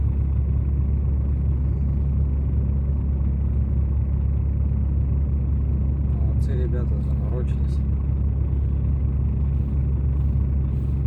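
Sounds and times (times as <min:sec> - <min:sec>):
road noise: 0:00.0 - 0:11.0
truck diesel engine drone: 0:00.0 - 0:11.0.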